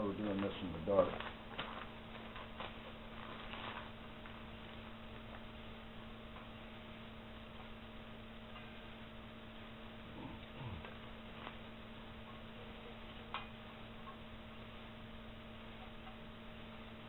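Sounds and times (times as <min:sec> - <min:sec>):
constant hiss: 0:00.0 - 0:17.0
faint steady hum: 0:00.0 - 0:17.0.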